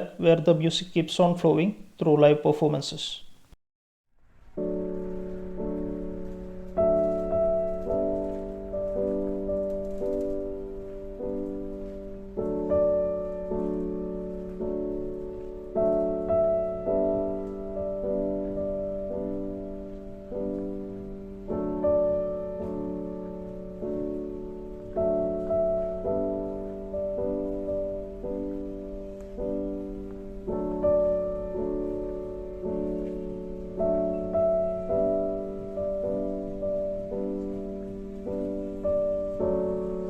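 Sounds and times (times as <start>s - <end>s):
slow solo piano: 4.2s - 40.0s.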